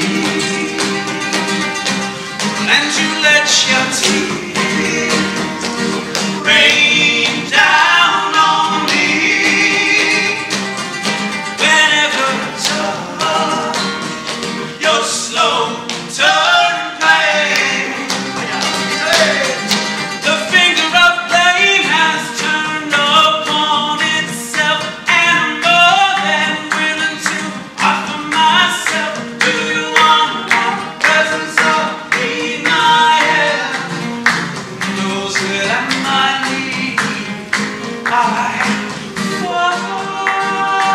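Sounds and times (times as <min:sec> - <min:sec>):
man singing: 0:00.0 - 0:01.8, 0:02.6 - 0:10.7, 0:11.5 - 0:34.2, 0:34.8 - 0:40.9.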